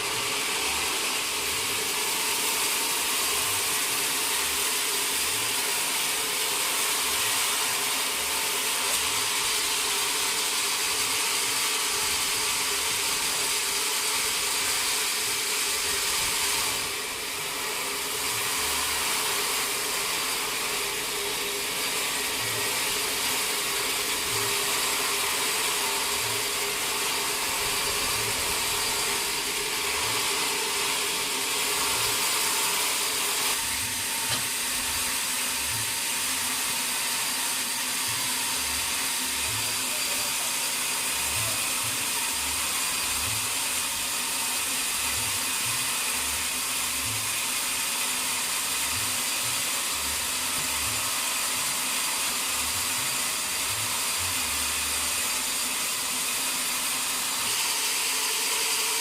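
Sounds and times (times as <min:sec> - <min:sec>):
sawmill machinery hiss: 0:00.0 - 0:59.0.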